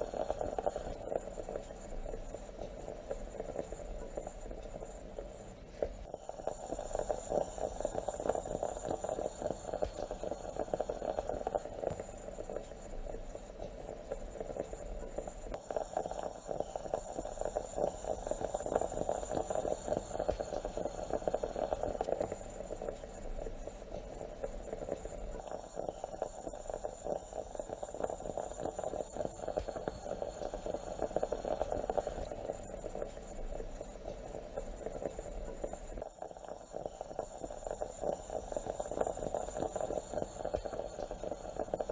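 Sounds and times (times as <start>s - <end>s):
moka pot gurgling and sputtering: 0.0s - 41.9s.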